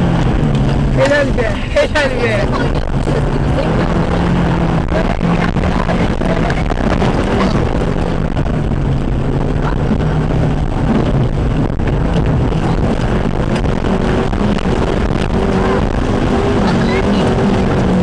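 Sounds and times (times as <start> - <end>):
car engine running under load: 0.0 - 18.0.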